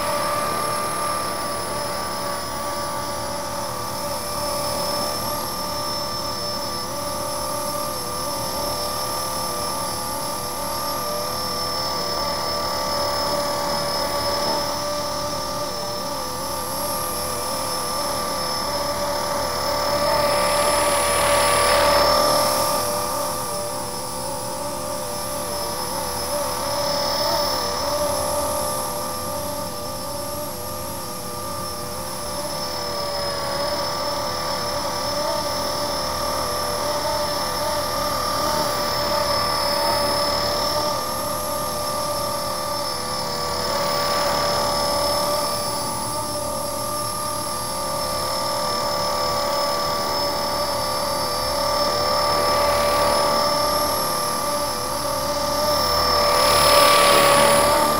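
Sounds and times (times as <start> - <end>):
model helicopter hovering: 0.0 - 57.9.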